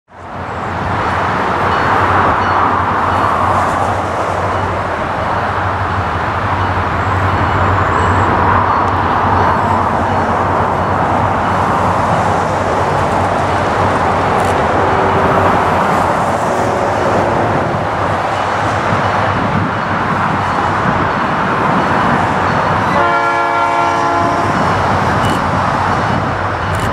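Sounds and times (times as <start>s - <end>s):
diesel locomotive engines rumbling: 0.1s - 26.9s.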